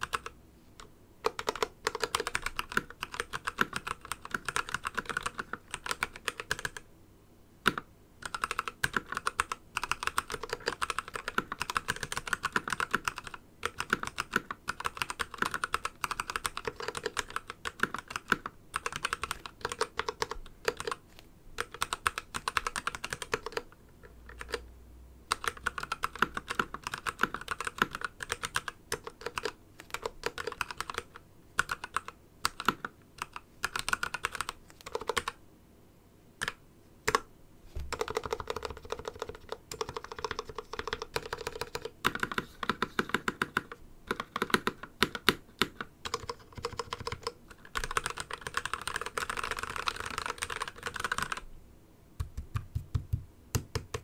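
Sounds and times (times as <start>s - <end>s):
typing on mechanical keyboard: 0.0s - 0.3s, 1.2s - 6.8s, 7.6s - 21.0s, 21.6s - 24.6s, 25.3s - 35.4s, 36.4s - 37.3s, 37.9s - 51.4s, 52.2s - 54.0s.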